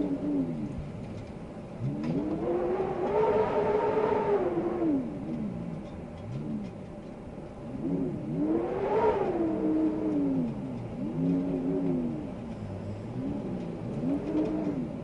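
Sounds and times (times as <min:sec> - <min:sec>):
wind howling in gusts: 0:00.0 - 0:15.0.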